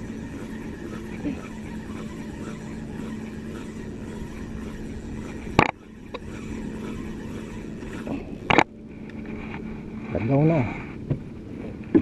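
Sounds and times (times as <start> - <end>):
small boat engine humming: 0.0 - 12.0.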